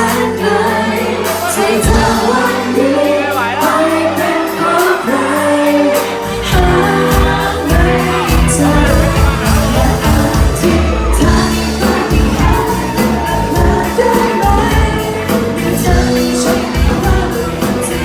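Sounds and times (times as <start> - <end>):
backing music: 0.0 - 18.0
bass line: 0.0 - 18.0
person singing a melody: 0.0 - 18.0
steady drum beat: 0.0 - 18.0.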